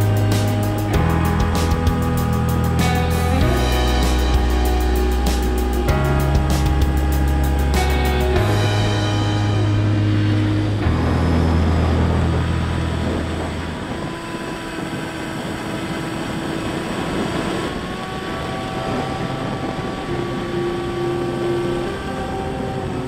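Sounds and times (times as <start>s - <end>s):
electric motor and propeller whine: 0.0s - 23.0s
wind rushing: 0.0s - 23.0s.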